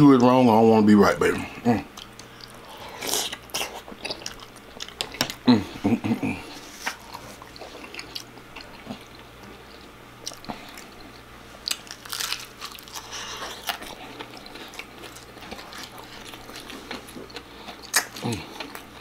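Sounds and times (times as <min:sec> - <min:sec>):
crunchy chewing of fried food: 0:01.4 - 0:19.0.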